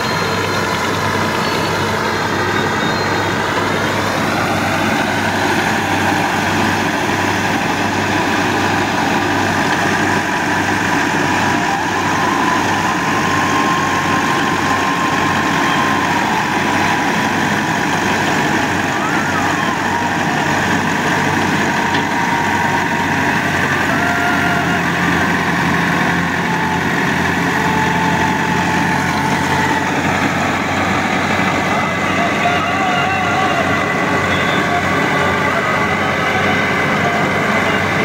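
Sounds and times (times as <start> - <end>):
diesel tractor engine running: 0.0 - 38.0
straw chopper high whine: 0.0 - 38.0.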